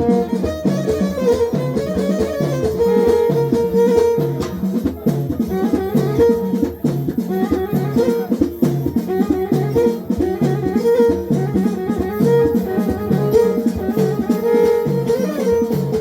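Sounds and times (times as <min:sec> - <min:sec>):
repeating drum beat: 0:00.0 - 0:16.0.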